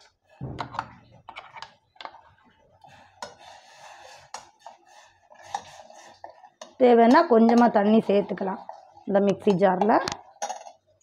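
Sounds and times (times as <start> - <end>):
ladle stirring pot: 0.6 - 10.8.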